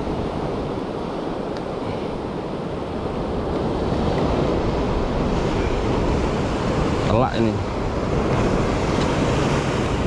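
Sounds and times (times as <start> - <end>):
ocean surf washing on breakwater: 0.0 - 10.0
wind on microphone: 0.0 - 10.0.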